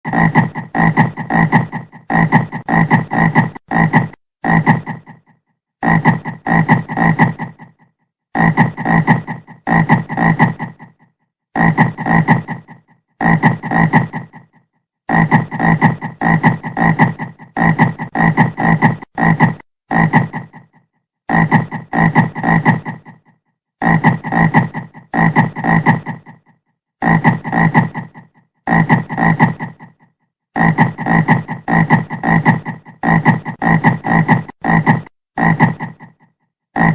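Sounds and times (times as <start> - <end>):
frog croaking: 0.1 - 7.8, 8.4 - 29.9, 30.6 - 36.9.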